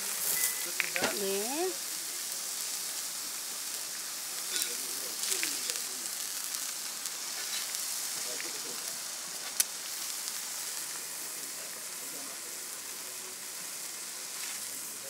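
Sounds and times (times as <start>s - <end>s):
food sizzling on a griddle: 0.0s - 15.0s.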